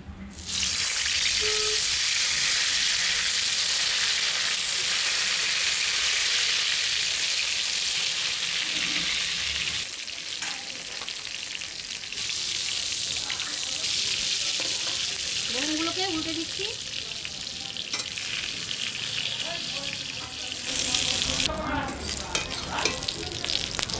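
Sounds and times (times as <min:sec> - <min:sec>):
eggplant sizzling in hot oil: 0:00.3 - 0:23.9.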